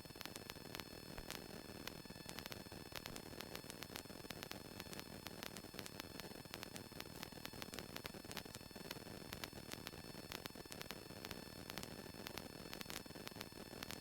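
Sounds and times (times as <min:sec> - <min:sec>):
headset static hiss: 0:00.0 - 0:14.0
sharp crackling clicks: 0:00.2 - 0:14.0.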